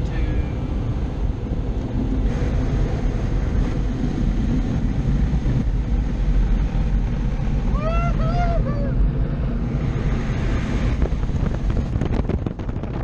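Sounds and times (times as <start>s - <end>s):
car wash machinery roar: 0.0s - 13.0s.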